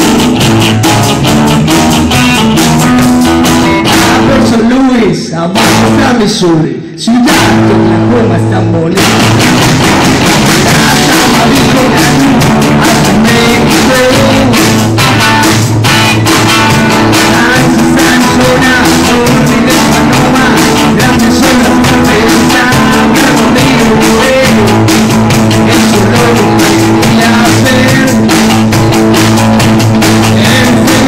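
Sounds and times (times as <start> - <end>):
steady drum beat: 0.0 - 4.8, 5.6 - 6.3, 7.3 - 31.0
live rock band playing: 0.0 - 6.4, 7.2 - 31.0.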